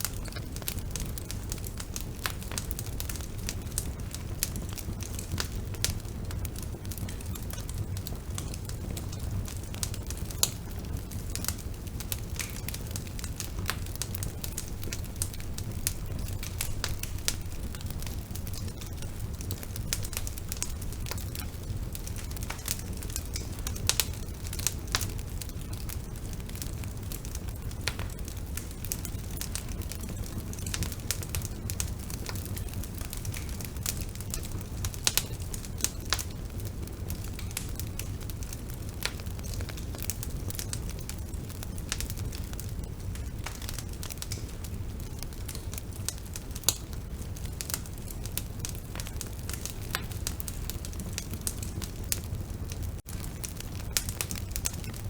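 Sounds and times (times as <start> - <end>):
burning wood crackling and popping: 0.0 - 55.0
low rumble of flames: 0.0 - 55.0.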